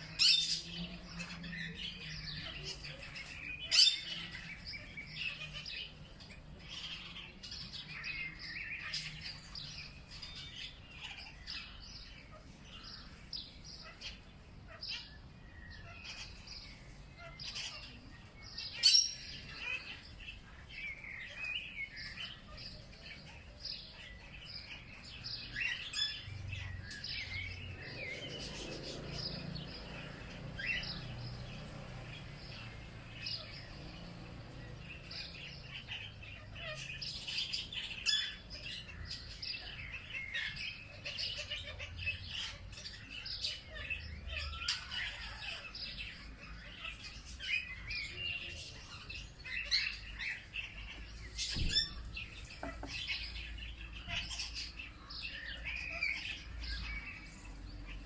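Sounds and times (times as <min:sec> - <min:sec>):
small birds chirping and singing: 0:00.0 - 0:58.0.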